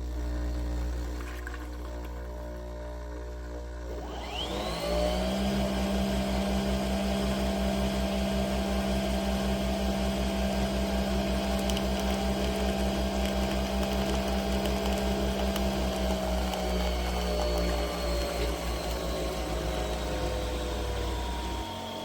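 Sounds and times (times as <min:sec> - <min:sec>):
coffee machine brewing: 0:00.0 - 0:22.0.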